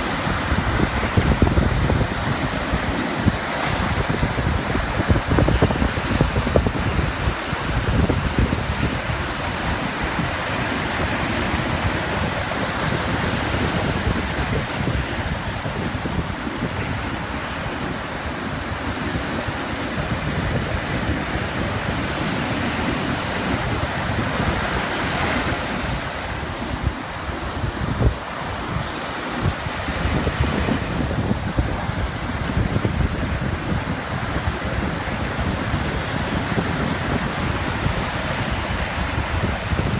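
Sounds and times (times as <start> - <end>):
small waves lapping on beach: 0.0 - 39.9
wind buffeting microphone: 0.0 - 39.9.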